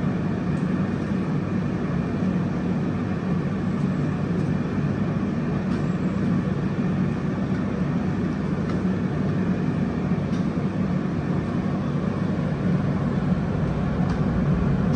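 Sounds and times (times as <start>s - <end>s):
kitchen fans droning: 0.0s - 14.9s.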